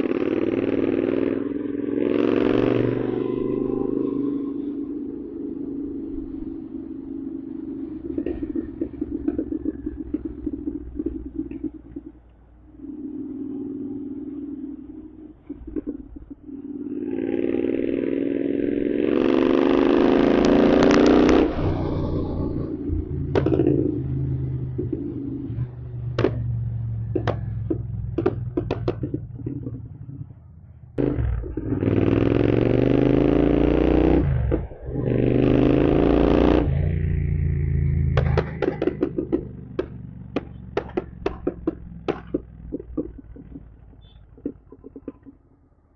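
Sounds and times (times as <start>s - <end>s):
exhaust pops: 0.0s - 17.6s, 19.0s - 45.9s
motorcycle engine revving: 0.0s - 45.9s.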